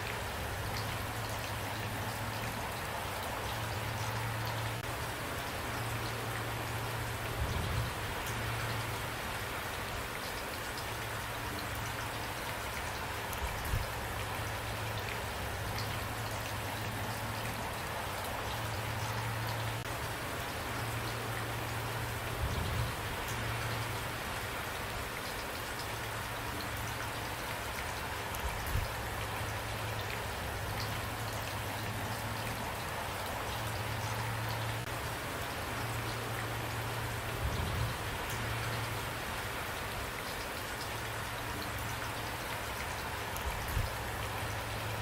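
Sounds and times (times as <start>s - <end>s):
rain falling: 0.0s - 45.0s.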